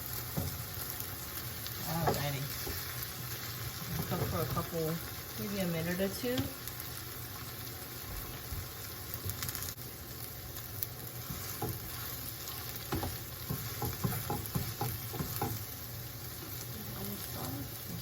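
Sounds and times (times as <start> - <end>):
omelet sizzling in a frying pan: 0.0 - 18.0.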